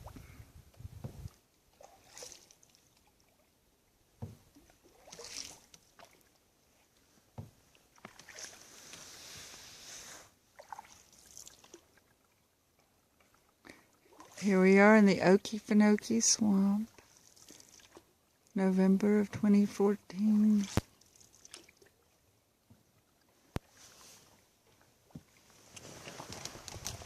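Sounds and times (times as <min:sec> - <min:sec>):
canoe paddle swishing water: 0:00.0 - 0:14.6, 0:16.8 - 0:18.4, 0:20.3 - 0:27.0.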